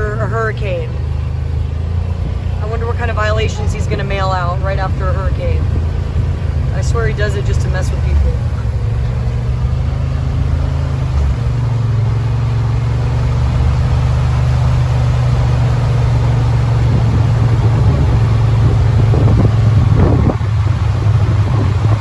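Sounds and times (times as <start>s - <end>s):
vehicle engine running steadily: 0.0s - 22.0s.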